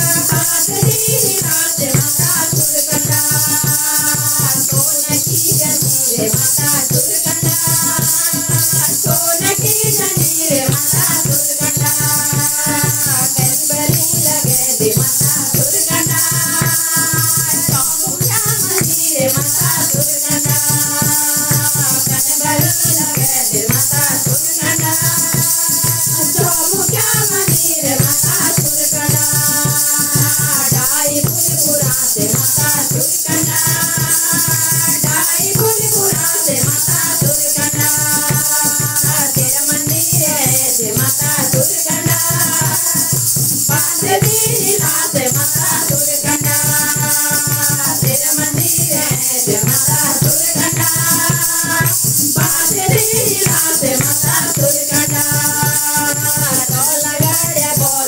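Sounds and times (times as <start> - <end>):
fast percussion: 0.0 - 58.0
hand-clapping: 0.0 - 58.0
women singing devotional song: 0.0 - 58.0.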